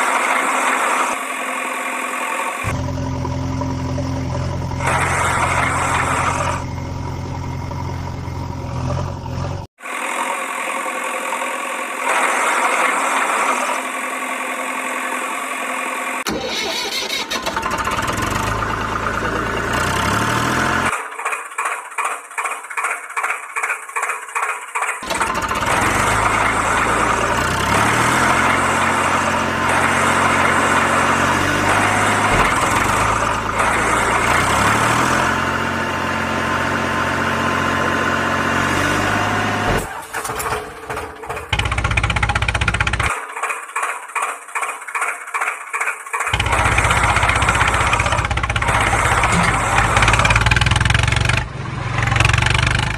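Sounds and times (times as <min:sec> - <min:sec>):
chugging engine: 0:02.3 - 0:13.9, 0:16.2 - 0:52.9.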